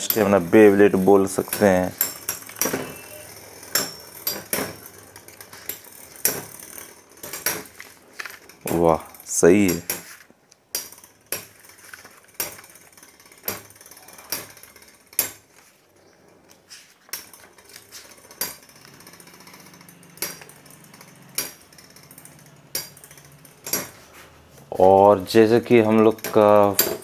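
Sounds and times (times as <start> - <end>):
spinning tops whirring: 0.0 - 10.2, 10.8 - 27.0.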